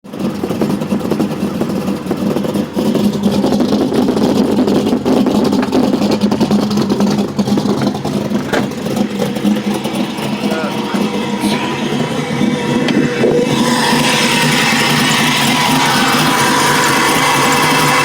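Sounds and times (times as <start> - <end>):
engine running with misfire: 0.0 - 18.0.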